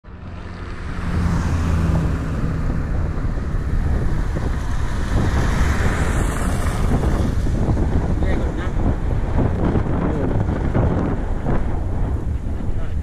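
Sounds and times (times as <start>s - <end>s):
wind rushing over microphone: 0.1s - 13.0s.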